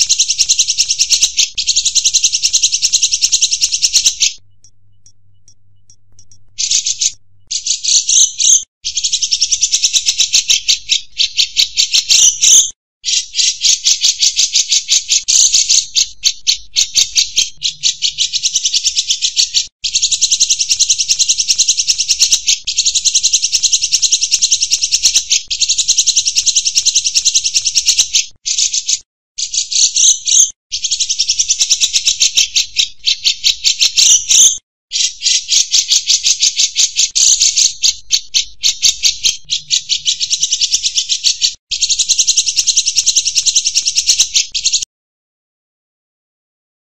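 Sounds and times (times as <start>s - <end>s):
bird harsh rapid rattling call: 0.0s - 4.4s, 5.4s - 44.9s.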